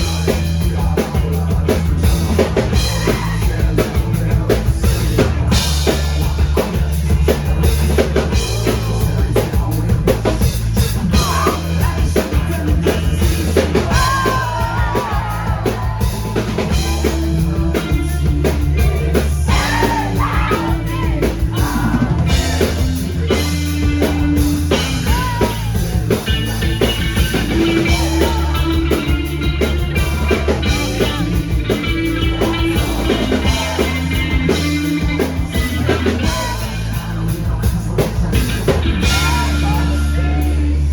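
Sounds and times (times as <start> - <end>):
person singing: 0.0 - 40.9
rock band playing live: 0.0 - 40.9.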